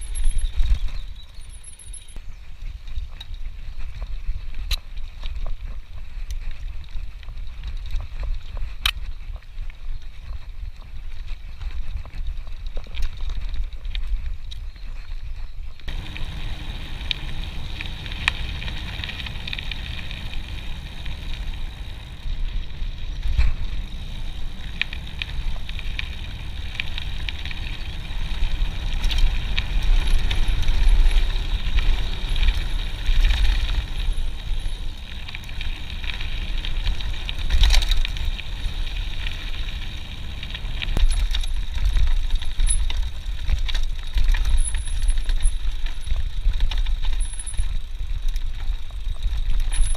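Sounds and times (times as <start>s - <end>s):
bike rattling over bumps: 0.0s - 49.9s
bike tyres rumbling on gravel: 0.0s - 49.9s.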